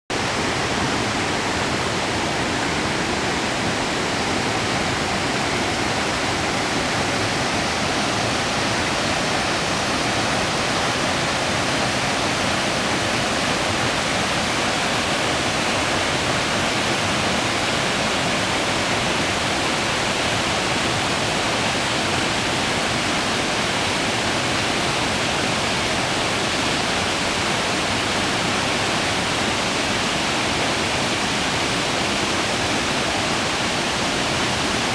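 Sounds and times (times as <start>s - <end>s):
small waterfall pouring: 0.2s - 34.9s.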